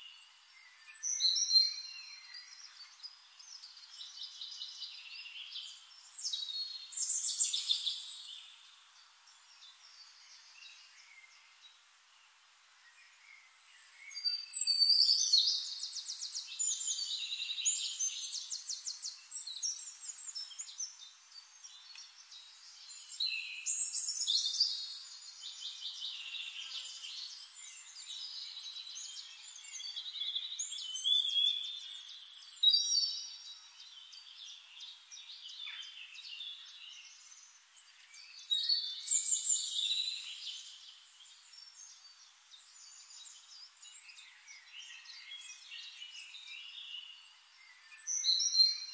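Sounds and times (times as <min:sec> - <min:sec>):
songbirds singing trills: 0:00.0 - 0:48.9.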